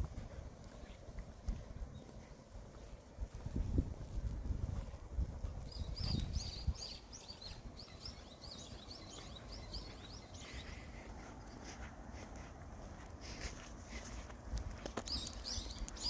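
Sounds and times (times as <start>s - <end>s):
faint outdoor hush: 0.0s - 16.0s
songbird chirping: 0.1s - 16.0s.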